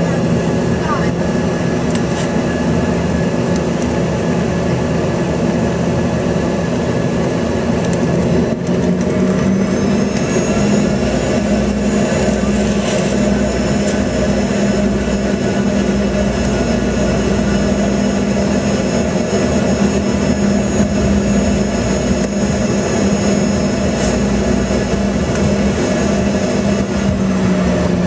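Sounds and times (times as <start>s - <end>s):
jet engines humming in cabin: 0.0s - 28.0s.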